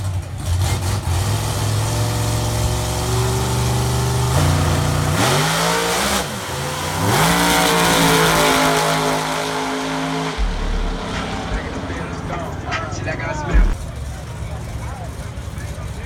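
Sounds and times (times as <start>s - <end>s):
race car engines idling and revving: 0.0s - 16.0s.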